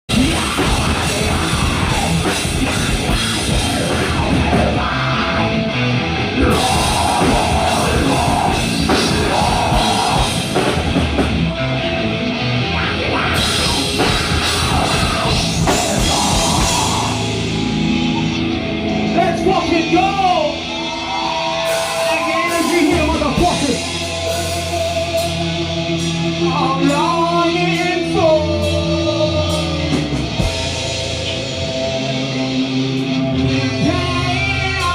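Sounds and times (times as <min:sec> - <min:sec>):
heavy metal band playing live: 0:00.1 - 0:34.9
lead guitar bending notes: 0:00.1 - 0:34.9.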